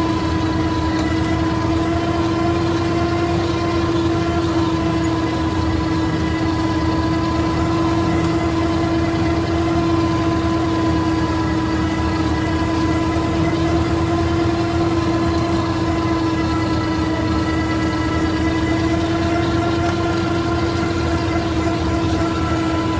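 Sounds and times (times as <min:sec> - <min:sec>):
flail mulcher high whine: 0:00.0 - 0:22.9
tractor diesel engine droning: 0:00.0 - 0:22.9.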